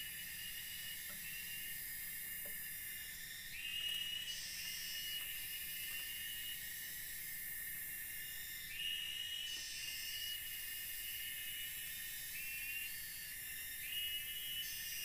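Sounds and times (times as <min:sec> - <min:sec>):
insects trilling: 0:00.0 - 0:15.0
shrill insect hiss: 0:00.0 - 0:15.0.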